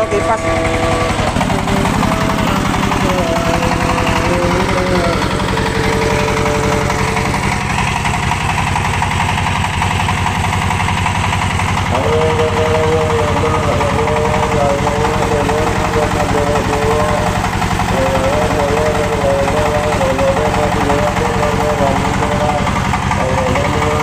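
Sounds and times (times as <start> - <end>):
diesel engine chugging: 0.0 - 24.0.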